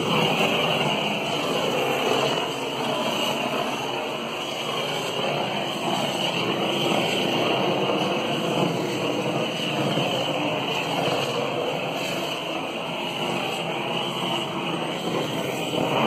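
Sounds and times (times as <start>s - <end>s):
blowtorch flame hissing: 0.0s - 16.0s.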